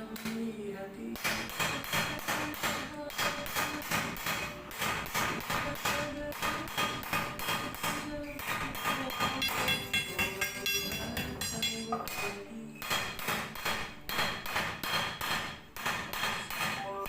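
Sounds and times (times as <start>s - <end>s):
hammer striking metal: 1.2s - 17.0s.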